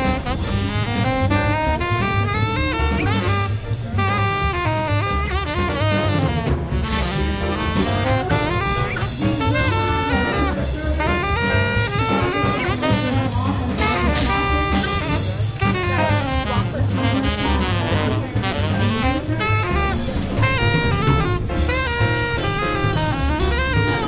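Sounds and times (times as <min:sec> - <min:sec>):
jazz music with saxophone: 0:00.0 - 0:24.0.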